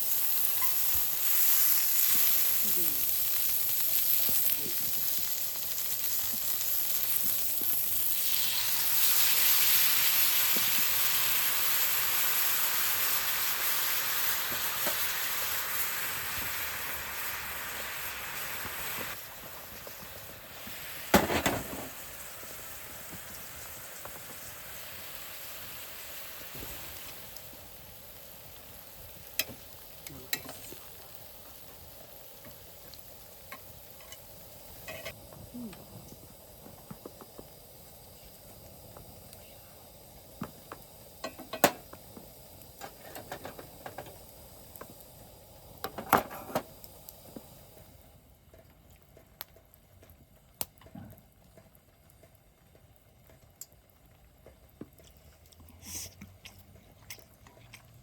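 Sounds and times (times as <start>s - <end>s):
food sizzling on grill pan: 0.0s - 48.1s.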